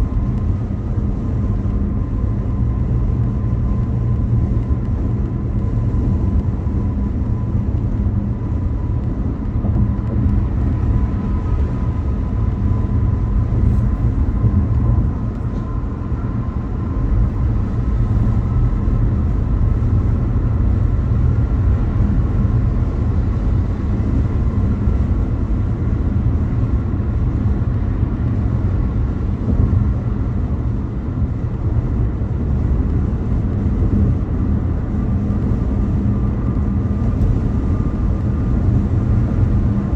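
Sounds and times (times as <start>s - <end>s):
car road and engine rumble: 0.0s - 39.9s
faint steady whine: 0.0s - 39.9s.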